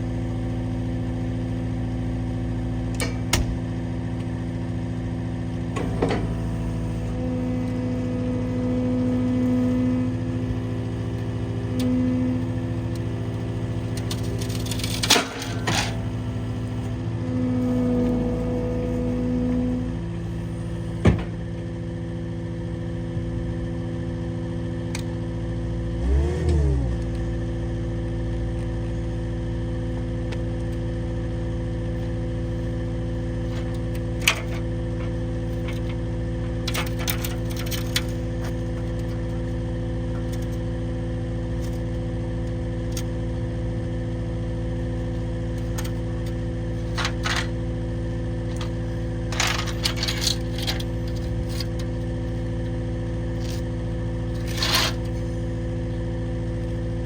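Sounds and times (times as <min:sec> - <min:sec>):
skid steer engine idling: 0:00.0 - 0:57.0.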